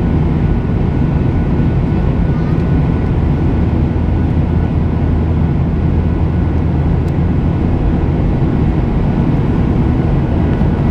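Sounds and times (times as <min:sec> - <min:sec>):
faint engine whine: 0:00.0 - 0:10.9
jet engines rumbling in cabin: 0:00.0 - 0:10.9.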